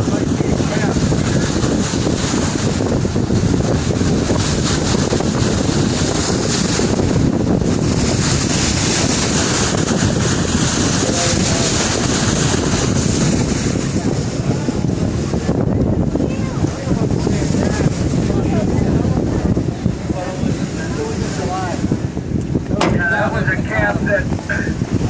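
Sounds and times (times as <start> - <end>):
boat and sea rumbling: 0.0 - 25.0
wind buffeting microphone: 0.0 - 25.0.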